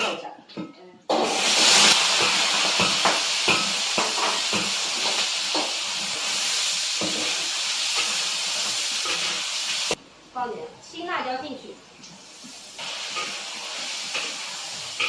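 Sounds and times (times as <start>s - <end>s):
food sizzling in hot oil: 1.1s - 10.0s, 11.2s - 15.0s.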